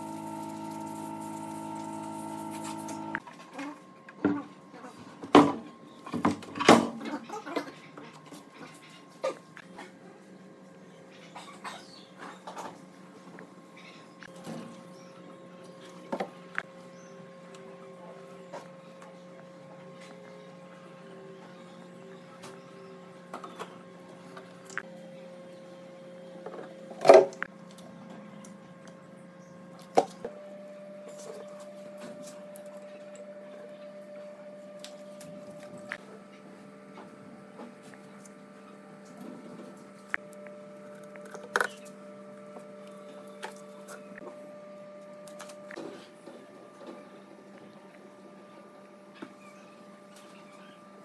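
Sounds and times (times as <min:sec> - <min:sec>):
machine hum: 0:00.0 - 0:51.0.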